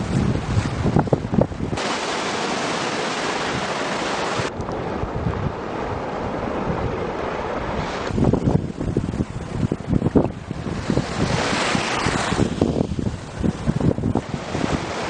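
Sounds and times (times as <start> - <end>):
wind buffeting microphone: 0.0 - 2.0, 3.1 - 15.0
sea surf washing up shore: 0.0 - 15.0.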